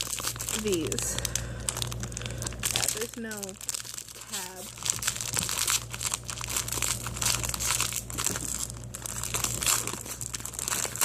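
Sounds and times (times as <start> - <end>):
plastic wrapper crinkling: 0.0 - 11.0
steady low hum: 0.0 - 11.0.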